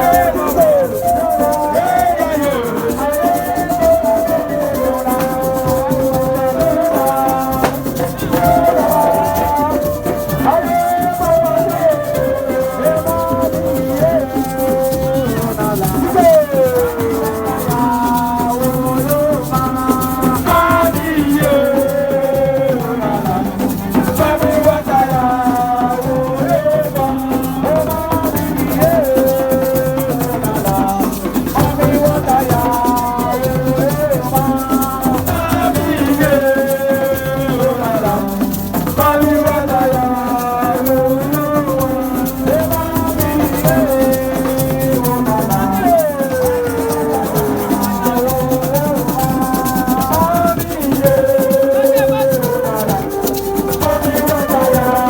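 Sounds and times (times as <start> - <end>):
shakers rhythm: 0.0 - 55.0
sliding melody line: 0.0 - 55.0.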